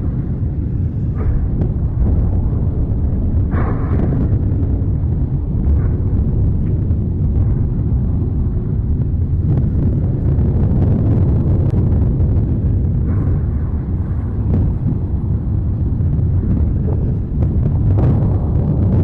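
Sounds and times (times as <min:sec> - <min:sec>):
volcano deep rumble: 0:00.0 - 0:19.0.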